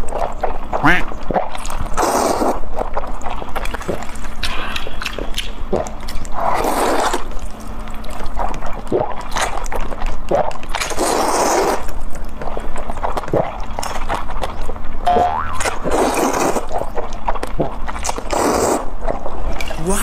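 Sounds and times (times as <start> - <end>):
noodles slurped: 0.0 - 14.7, 15.6 - 20.0
chewing sounds: 0.0 - 20.0.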